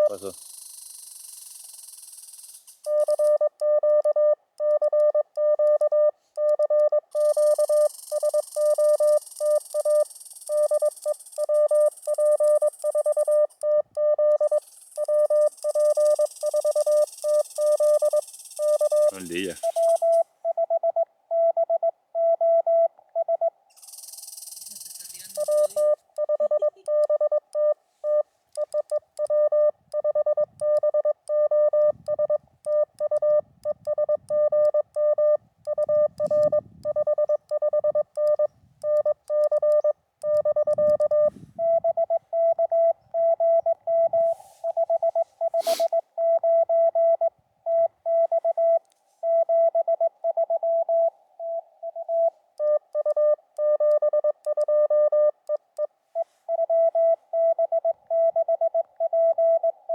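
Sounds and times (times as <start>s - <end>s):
morse code tones: 0.0s - 0.3s, 2.9s - 23.5s, 25.2s - 59.9s.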